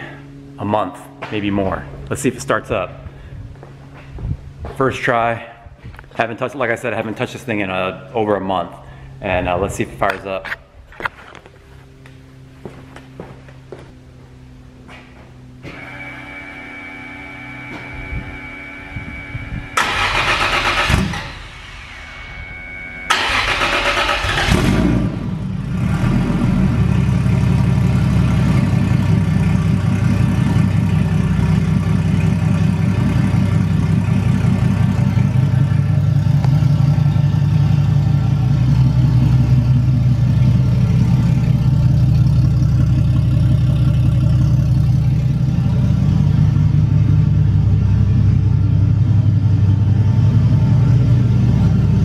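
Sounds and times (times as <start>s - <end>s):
car engine starting and idling: 0.0s - 52.0s.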